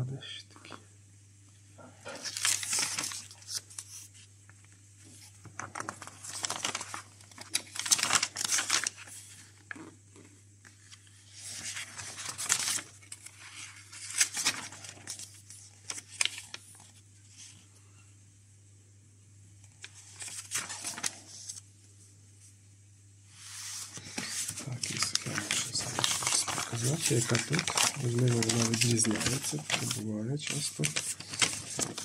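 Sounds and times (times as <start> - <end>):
paper pages rustling: 2.1 - 17.6, 19.6 - 21.7, 23.3 - 32.0.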